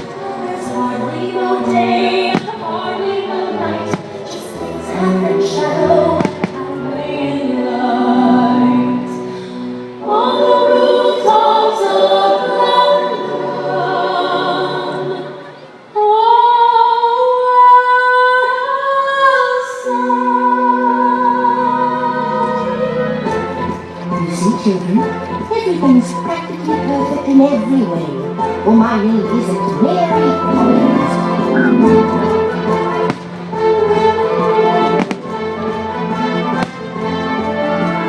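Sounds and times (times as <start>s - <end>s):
choir singing with music: 0.0s - 38.0s.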